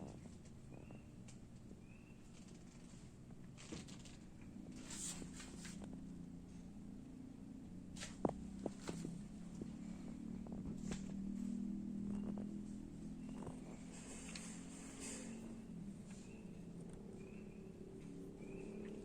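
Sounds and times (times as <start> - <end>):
faint clicks and rustling: 0.0 - 6.7, 7.6 - 19.0
low steady hum: 0.0 - 19.0.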